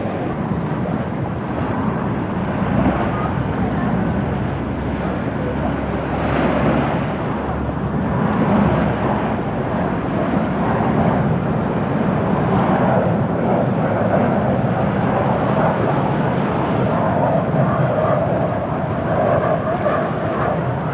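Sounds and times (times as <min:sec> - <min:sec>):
jet engines running: 0:00.0 - 0:20.9.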